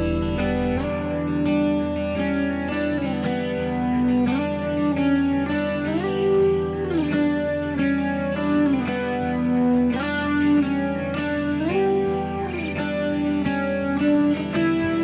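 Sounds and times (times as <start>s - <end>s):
plucked guitar sliding notes: 0.0s - 15.0s.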